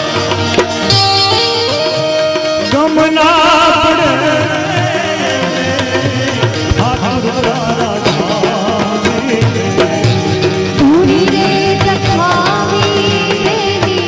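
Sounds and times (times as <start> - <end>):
drum strokes: 0.0 - 14.0.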